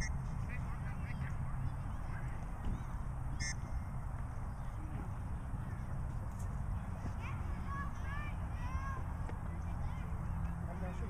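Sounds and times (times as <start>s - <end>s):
faint distant calls: 0.0s - 11.0s.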